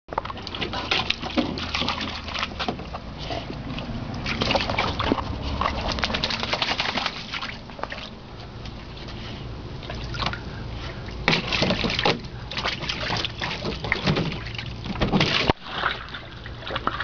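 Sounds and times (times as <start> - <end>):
puppy splashing in water: 0.2 - 17.0.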